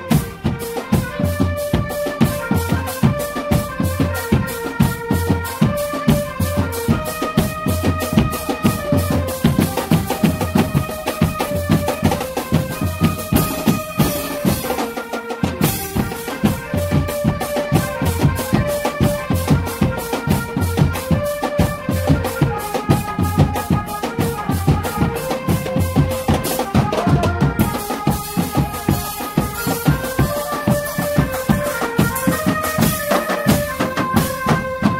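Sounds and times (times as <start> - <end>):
drum band music: 0.0 - 34.9.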